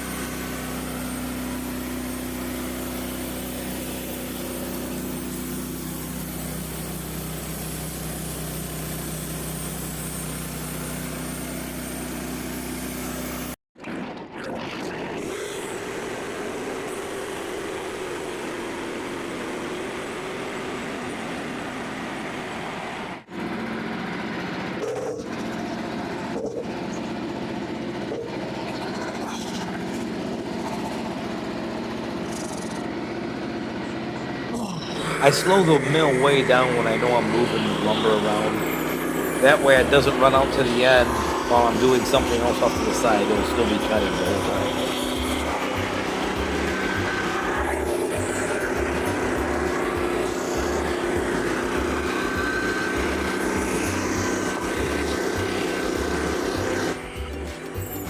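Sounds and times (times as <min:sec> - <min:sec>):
bandsaw mill cutting log: 0:00.0 - 0:13.6, 0:15.2 - 0:58.0.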